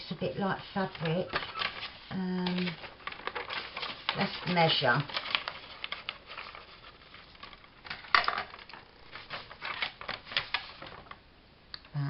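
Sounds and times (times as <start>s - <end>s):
paper rustling: 0.0s - 11.2s.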